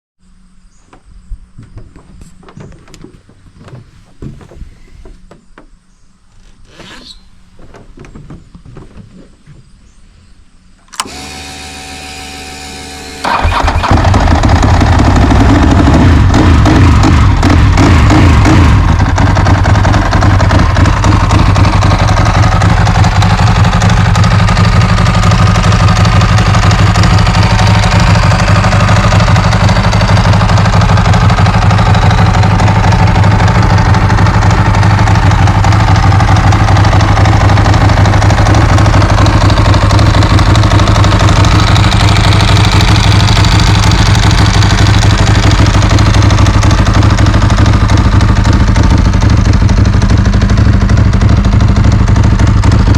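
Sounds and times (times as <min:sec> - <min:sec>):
motorcycle engine idling: 0:00.7 - 0:52.9.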